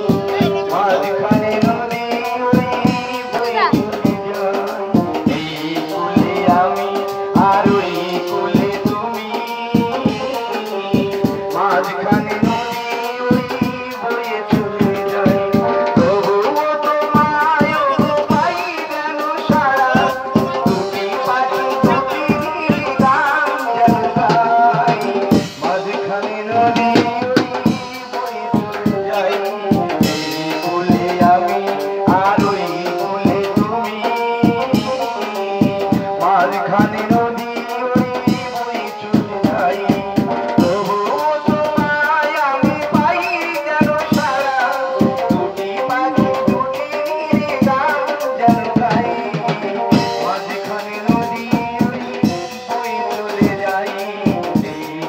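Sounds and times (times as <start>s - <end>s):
busy drum beat: 0.0s - 55.0s.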